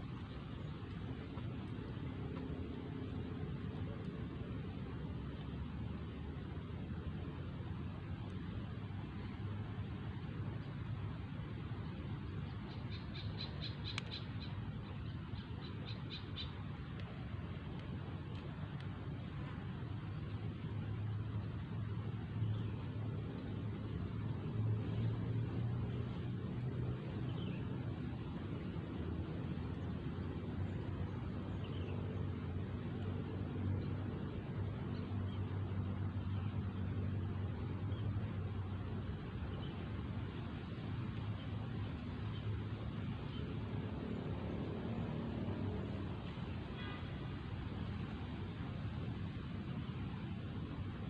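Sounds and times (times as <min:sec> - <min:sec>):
steady low hum: 0:00.0 - 0:51.0
steady low rumble: 0:00.0 - 0:51.0.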